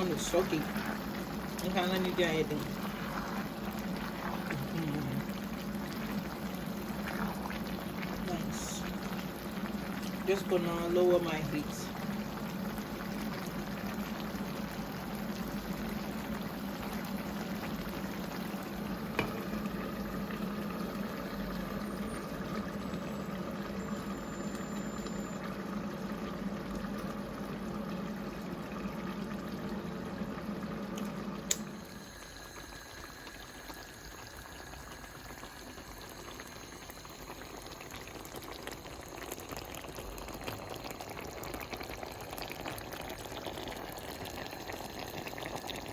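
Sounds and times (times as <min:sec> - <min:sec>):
stew bubbling in pot: 0:00.0 - 0:45.9.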